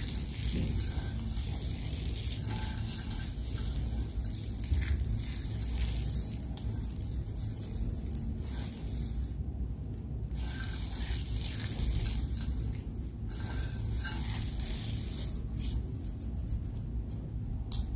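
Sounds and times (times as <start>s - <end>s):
soap crackling and crumbling: 0.0s - 17.9s.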